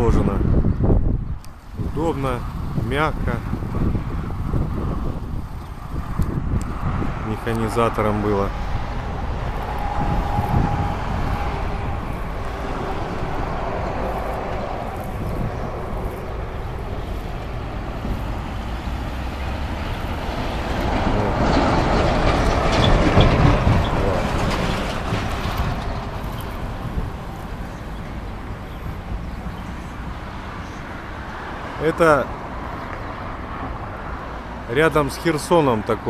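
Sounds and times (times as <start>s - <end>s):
road traffic rumble: 0.0s - 36.0s
vehicle passing: 1.6s - 36.0s.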